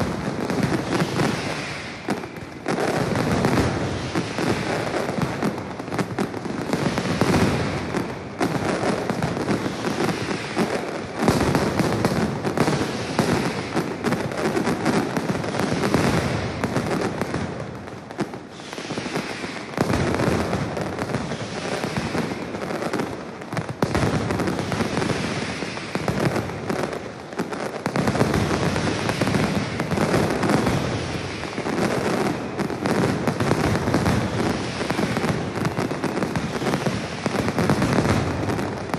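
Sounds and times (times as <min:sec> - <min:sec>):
firecrackers bursting: 0:00.0 - 0:38.9.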